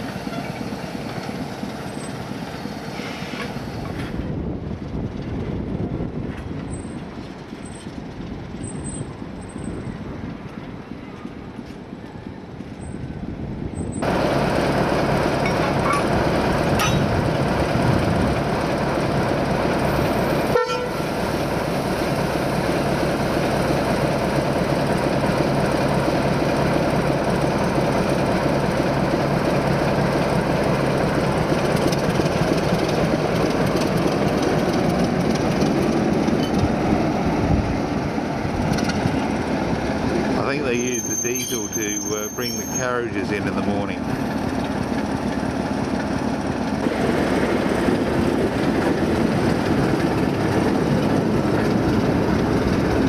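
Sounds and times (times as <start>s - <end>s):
diesel locomotive engine running: 0.0s - 53.0s.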